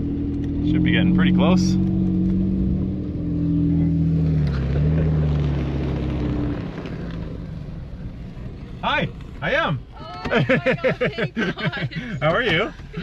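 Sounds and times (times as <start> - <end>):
vehicle engine drone from inside: 0.0 - 13.0.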